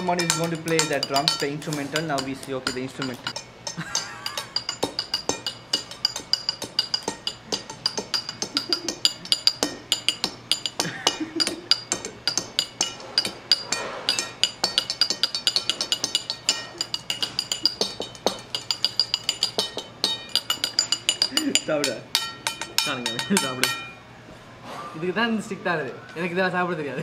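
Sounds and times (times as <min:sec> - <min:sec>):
chopsticks drumming on dishes: 0:00.0 - 0:24.0.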